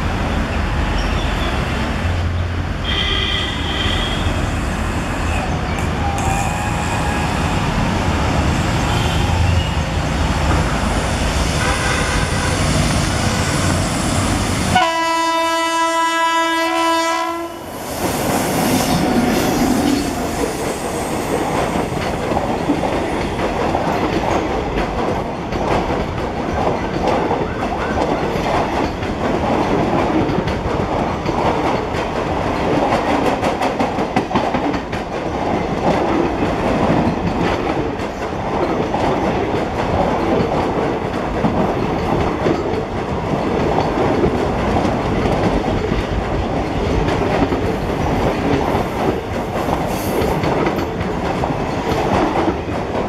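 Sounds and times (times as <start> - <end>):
train coaches rushing past: 0.0 - 53.0.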